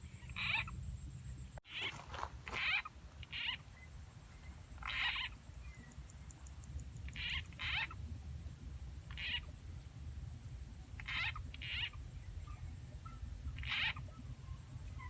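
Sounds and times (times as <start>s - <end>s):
frog croaking: 1.7s - 9.7s, 10.9s - 15.0s.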